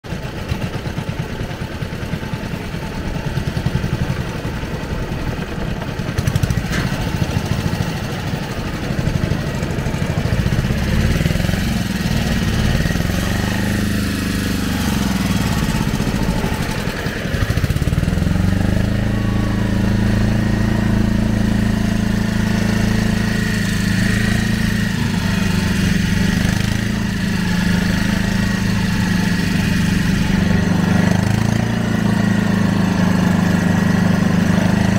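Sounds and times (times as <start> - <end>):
small outboard engine running: 0.0 - 34.9.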